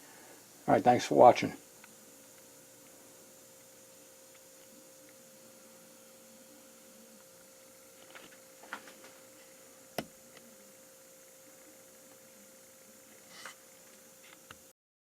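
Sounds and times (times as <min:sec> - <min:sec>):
faint steady hum: 0:00.0 - 0:14.7.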